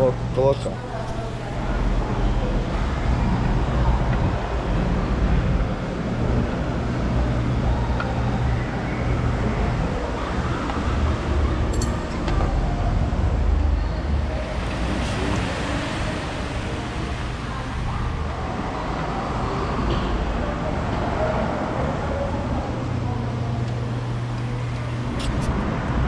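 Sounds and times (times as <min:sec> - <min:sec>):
low rumble of road traffic: 0:00.0 - 0:26.0.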